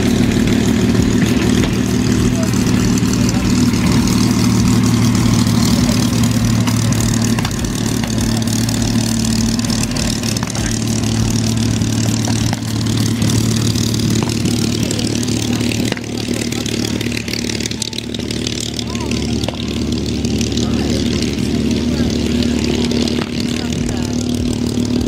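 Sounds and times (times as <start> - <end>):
aero engine idling: 0.0 - 25.0.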